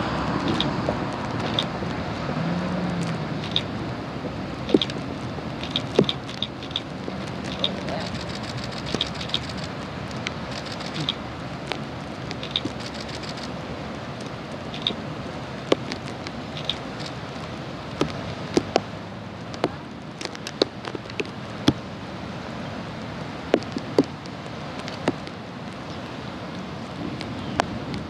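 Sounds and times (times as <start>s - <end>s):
raindrops ticking: 2.8s - 15.0s, 15.6s - 21.8s, 23.5s - 28.0s.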